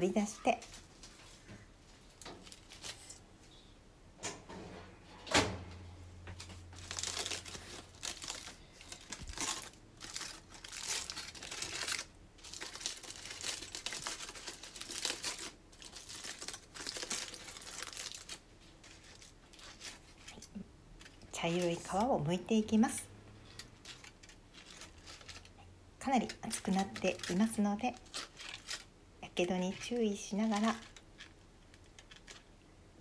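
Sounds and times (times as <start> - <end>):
aluminium foil crinkling: 2.2 - 3.2, 6.6 - 32.6.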